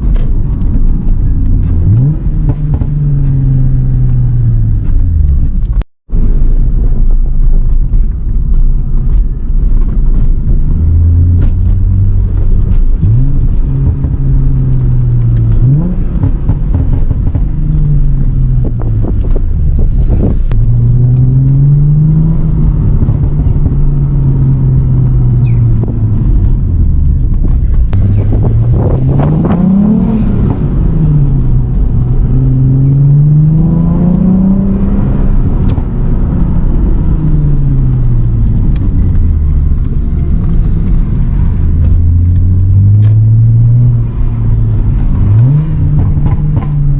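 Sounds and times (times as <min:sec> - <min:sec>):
exhaust pops and crackles: 0:00.0 - 0:33.4, 0:34.1 - 0:46.9
car engine accelerating: 0:00.0 - 0:46.9.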